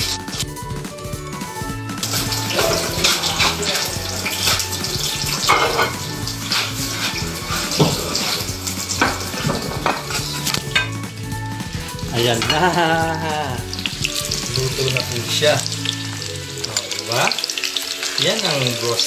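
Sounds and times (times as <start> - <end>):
oil crackling and spattering: 0.0 - 19.0
food frying in hot oil: 1.4 - 19.0.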